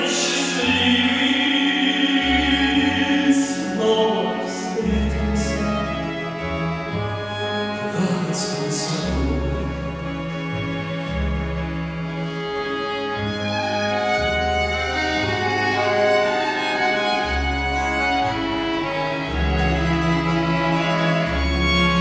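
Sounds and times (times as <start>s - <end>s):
double bass: 0.0s - 22.0s
violin melody: 0.0s - 22.0s.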